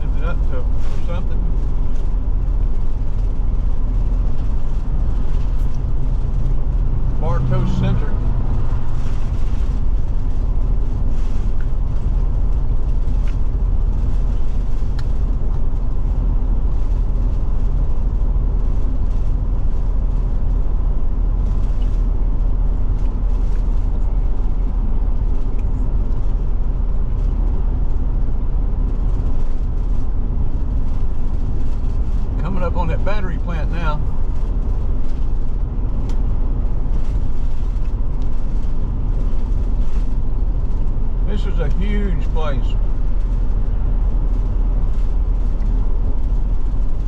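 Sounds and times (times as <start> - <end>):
engine and road rumble in cab: 0.0 - 47.0.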